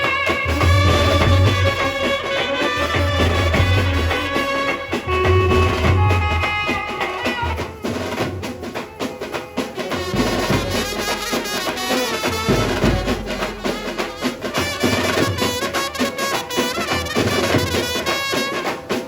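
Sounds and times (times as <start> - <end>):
saxophone melody: 0.0 - 18.3
steady drumming: 0.0 - 19.0.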